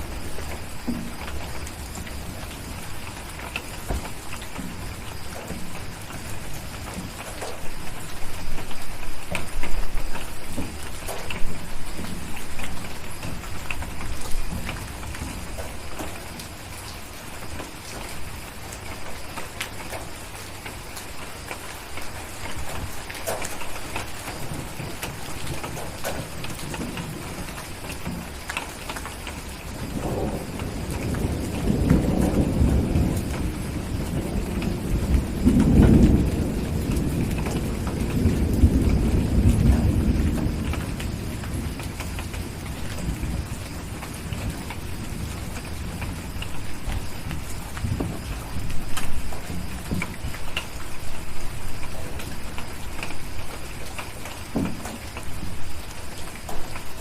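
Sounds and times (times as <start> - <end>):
deep rumble of thunder: 0.0 - 21.6, 22.2 - 57.0
steady rain falling: 0.0 - 57.0.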